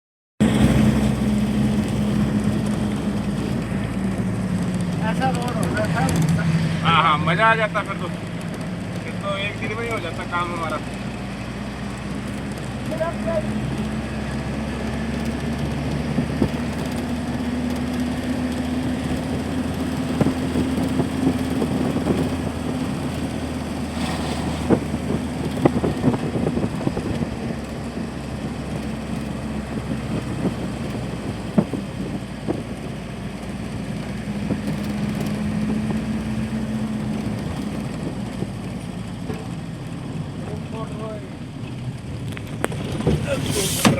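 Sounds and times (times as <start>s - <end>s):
road noise: 0.4s - 43.9s
vehicle engine hum: 0.4s - 43.9s.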